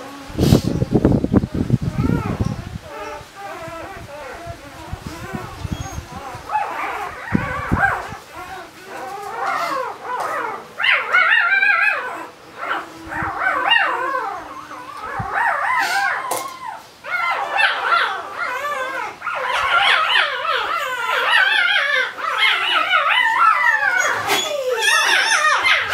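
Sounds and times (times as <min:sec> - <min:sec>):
puppy squealing: 0:01.9 - 0:25.9.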